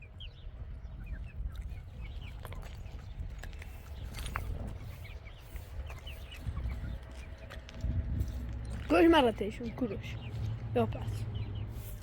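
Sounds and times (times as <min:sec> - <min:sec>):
birds chirping: 0:00.0 - 0:12.0
low rumble: 0:00.1 - 0:12.0.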